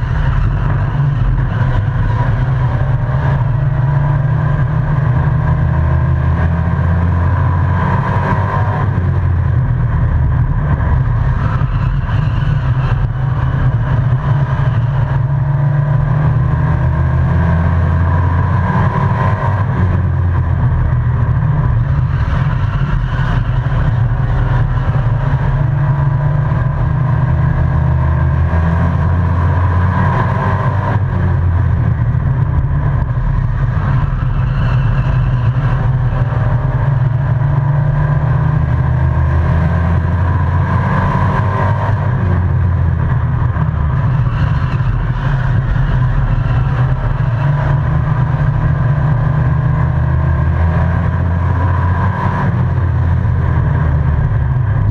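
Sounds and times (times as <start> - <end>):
race truck engine: 0.0 - 54.9.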